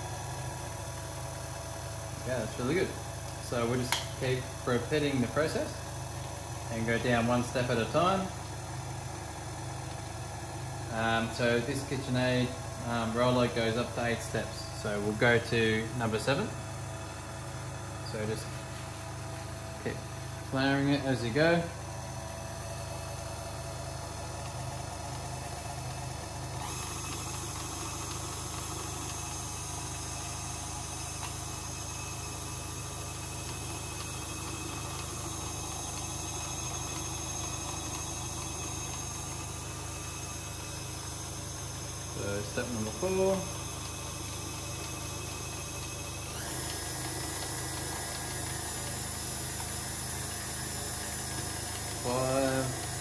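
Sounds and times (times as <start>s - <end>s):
stand mixer motor whirring: 0.0s - 53.0s.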